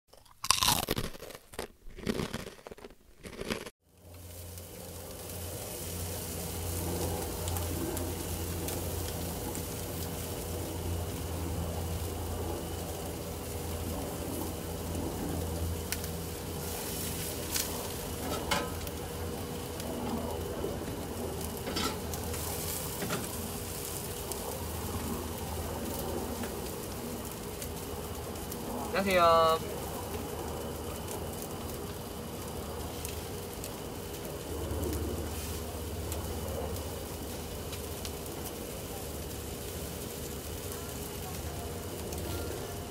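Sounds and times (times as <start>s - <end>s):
skewers sizzling on a grill: 3.8s - 42.9s
steady low hum: 3.9s - 42.9s.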